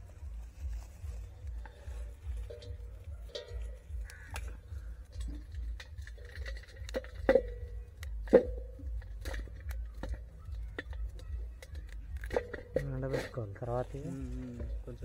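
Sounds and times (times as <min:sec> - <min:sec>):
rustling of dry roots and soil: 0:00.0 - 0:15.0.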